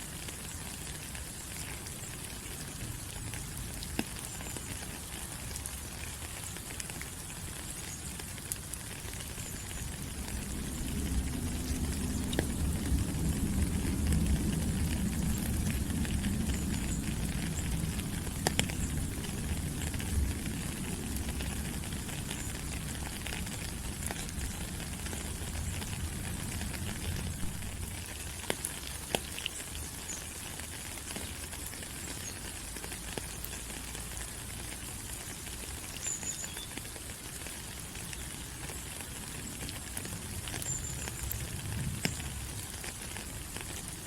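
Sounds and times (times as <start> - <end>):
rain falling on foliage: 0.0 - 44.0.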